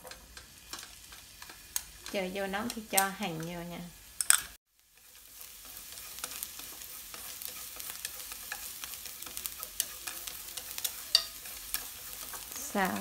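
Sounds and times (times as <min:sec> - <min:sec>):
chopsticks stirring in pan: 0:00.0 - 0:13.0
onion sizzling in hot oil: 0:00.0 - 0:13.0.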